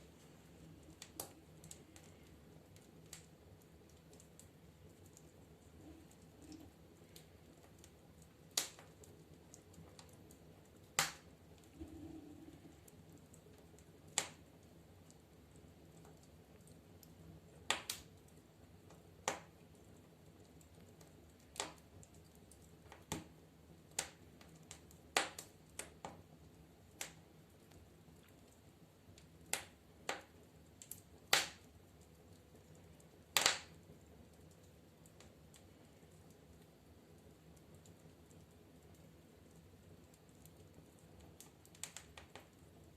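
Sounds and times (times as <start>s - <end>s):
faint steady background noise: 0.0s - 42.9s
wood fire crackling: 0.0s - 42.9s.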